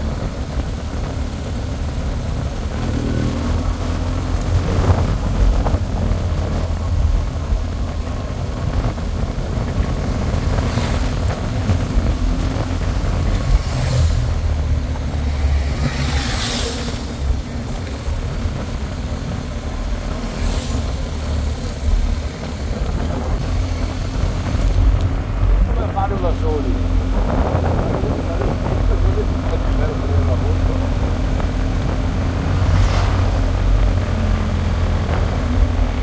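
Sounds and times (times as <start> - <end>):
motorcycle engine rumble: 0.0 - 36.0
motorcycles passing by: 0.0 - 36.0
wind on microphone: 0.0 - 36.0.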